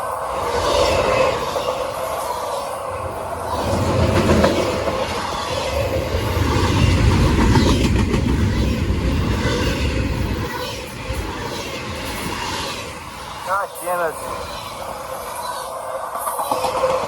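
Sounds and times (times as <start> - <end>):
freight train cars rumbling past: 0.0 - 17.0
train wheels clicking on rails: 0.0 - 17.0.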